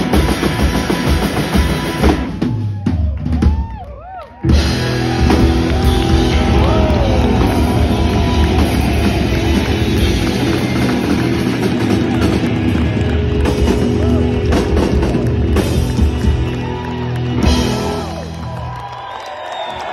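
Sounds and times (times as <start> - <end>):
live rock band playing: 0.0 - 3.8, 4.4 - 19.0
crowd noise: 0.0 - 19.9.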